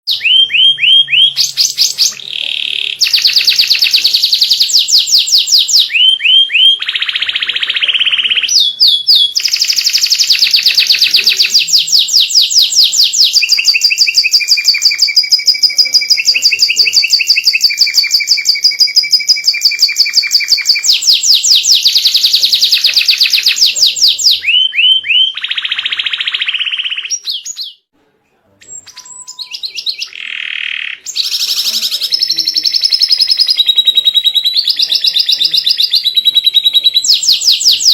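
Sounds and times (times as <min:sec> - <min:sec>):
canary trilling: 0:00.1 - 0:27.9, 0:28.6 - 0:37.9.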